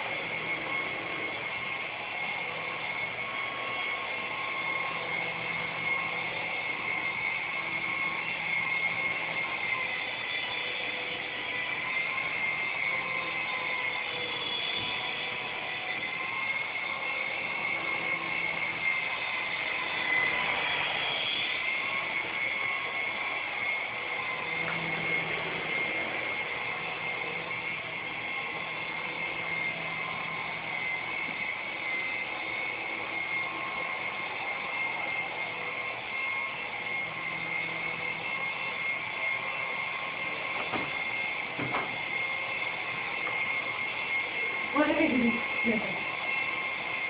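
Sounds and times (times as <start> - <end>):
toy helicopter rotor whine: 0.0 - 47.0.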